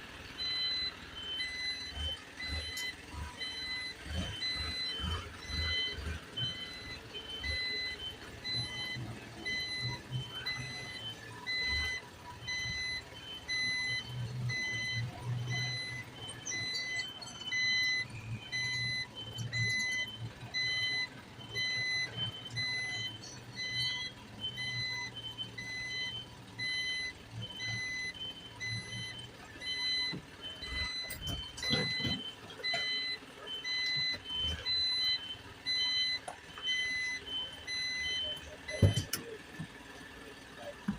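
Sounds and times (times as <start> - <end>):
truck engine running: 0.0 - 40.9
truck reversing alarm beeping: 0.0 - 40.9.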